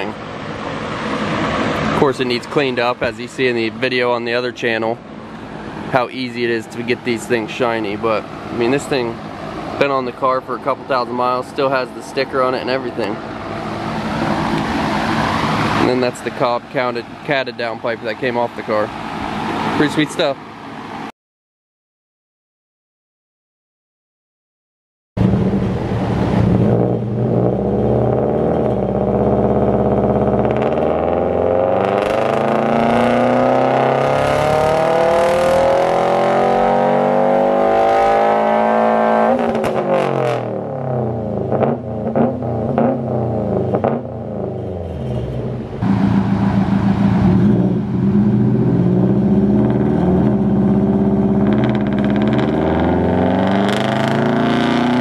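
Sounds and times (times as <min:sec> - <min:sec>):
car engine revving at full throttle: 0:00.0 - 0:04.1, 0:06.7 - 0:21.1, 0:25.2 - 0:55.0
exhaust crackling: 0:00.0 - 0:20.4, 0:25.2 - 0:55.0.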